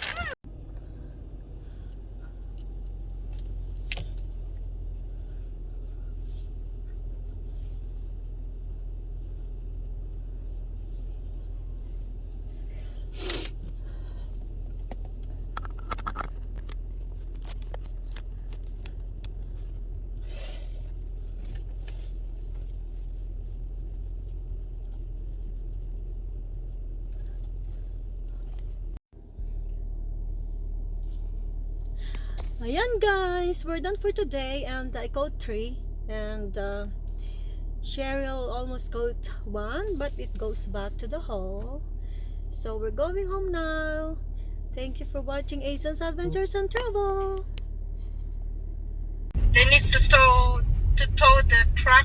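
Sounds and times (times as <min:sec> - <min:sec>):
vehicle engine low rumble: 0:00.0 - 0:52.0.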